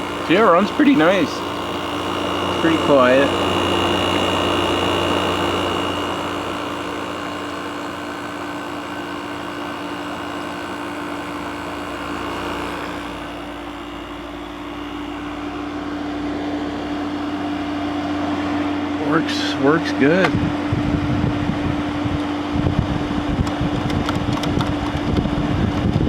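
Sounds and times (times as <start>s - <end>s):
air conditioner running: 0.0s - 26.0s.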